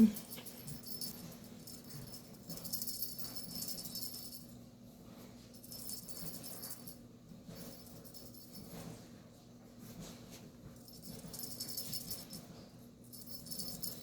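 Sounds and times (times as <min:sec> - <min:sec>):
small bell jingling: 0:00.0 - 0:04.6, 0:05.5 - 0:08.9, 0:10.8 - 0:14.0.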